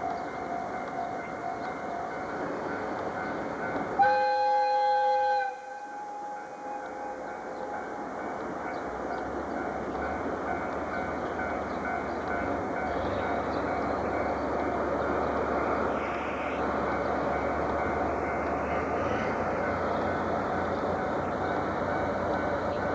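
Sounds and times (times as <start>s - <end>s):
diesel train rumbling past: 0.0s - 22.9s.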